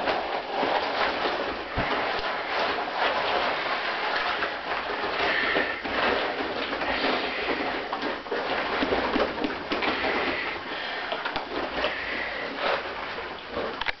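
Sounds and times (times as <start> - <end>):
latex suits rubbing and squeaking: 0.0 - 14.0.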